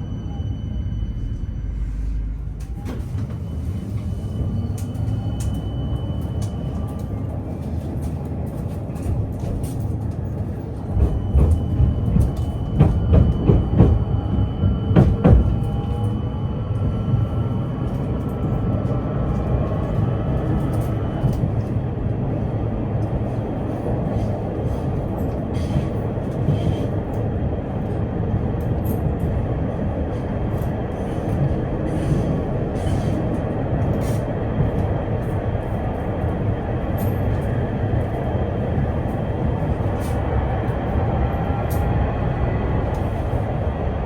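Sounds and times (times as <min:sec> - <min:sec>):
tram wheels rumbling: 0:00.0 - 0:44.0.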